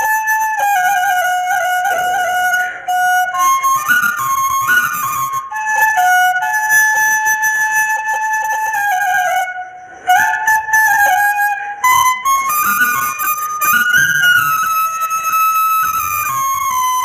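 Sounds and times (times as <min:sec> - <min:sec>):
bamboo flute melody: 0:00.0 - 0:17.0.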